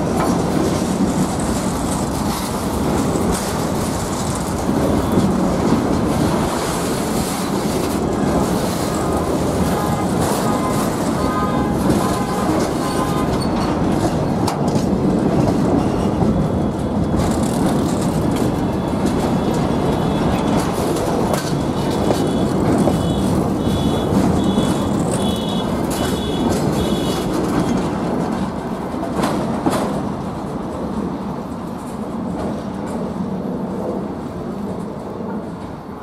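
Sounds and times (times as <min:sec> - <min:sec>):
clicks at rail joints: 0:00.0 - 0:33.2
train wheels rumbling on rails: 0:00.0 - 0:36.0.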